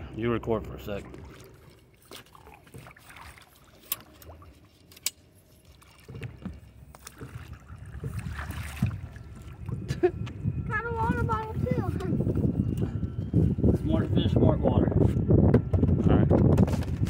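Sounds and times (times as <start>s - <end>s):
water splashing and sloshing: 0.0s - 14.2s.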